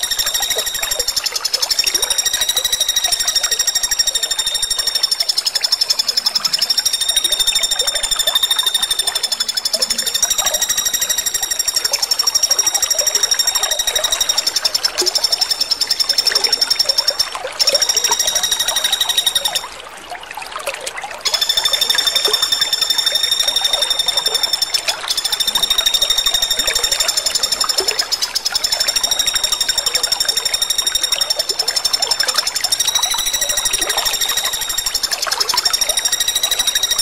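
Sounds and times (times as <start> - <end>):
woodpecker rattling trills: 0.0 - 19.8, 21.2 - 37.0.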